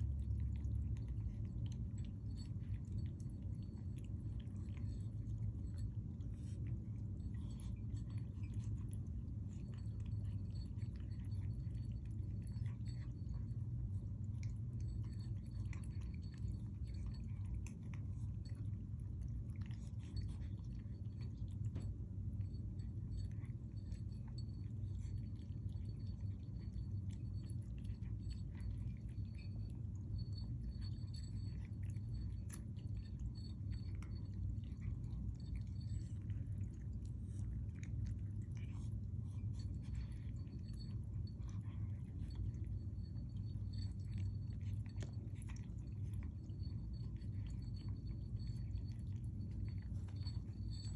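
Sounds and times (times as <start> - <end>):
cats crunching dry kibble: 0.0 - 50.9
steady low hum: 0.0 - 50.9
wet food chewing: 0.0 - 50.9.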